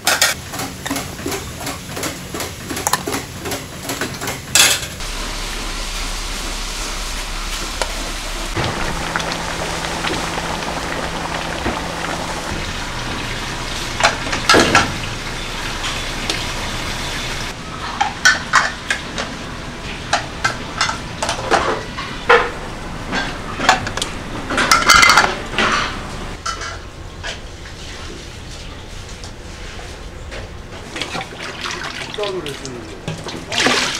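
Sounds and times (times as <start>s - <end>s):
pots sizzling over gas burners: 0.0s - 33.9s.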